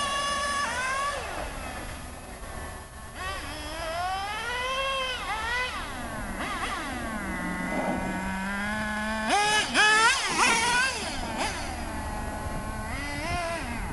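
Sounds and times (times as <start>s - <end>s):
small engine revving: 0.0s - 13.9s.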